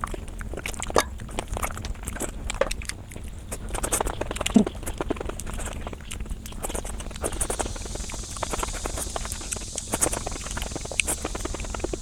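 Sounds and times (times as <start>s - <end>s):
chewing with mouth clicks: 0.0s - 12.0s.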